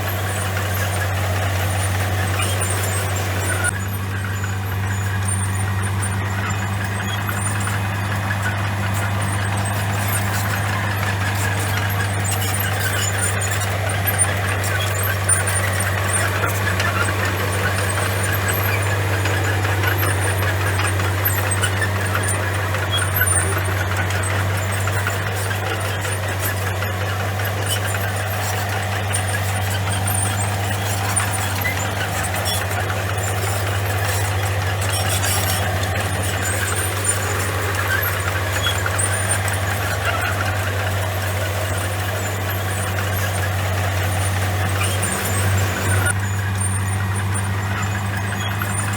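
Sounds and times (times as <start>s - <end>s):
bulldozer diesel engine: 0.0s - 48.9s
steel tracks squeaking and clattering: 0.0s - 48.9s.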